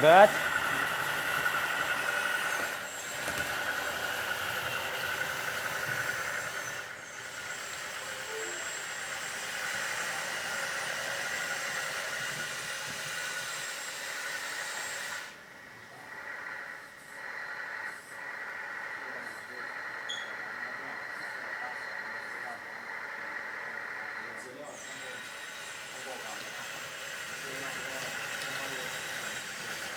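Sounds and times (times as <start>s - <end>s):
steady hiss: 0.0s - 24.0s
hydraulic pump whining: 0.0s - 29.9s.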